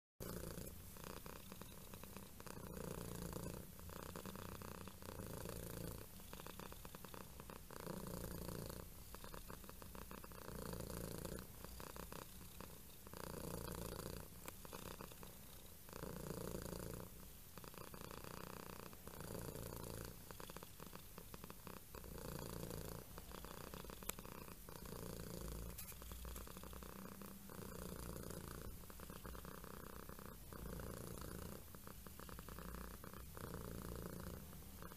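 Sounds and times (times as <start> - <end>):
cat purring: 0.2 - 34.9.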